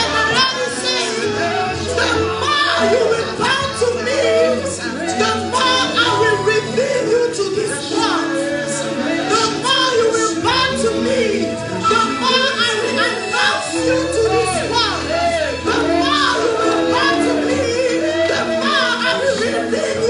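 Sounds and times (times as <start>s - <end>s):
band playing worship music: 0.0s - 20.0s
woman singing: 0.0s - 20.0s.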